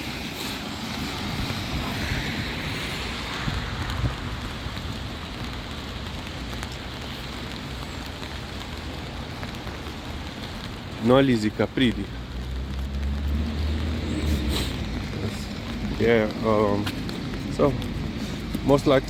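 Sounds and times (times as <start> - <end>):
car tyres hissing on wet road: 0.0 - 19.0
steady rain falling: 0.0 - 19.0.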